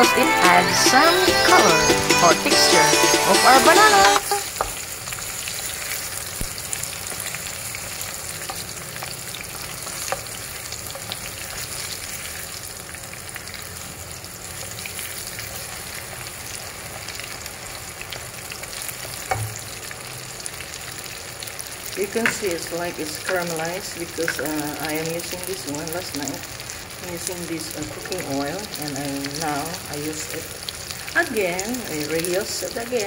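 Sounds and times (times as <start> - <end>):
food sizzling in hot oil: 1.0 - 33.0.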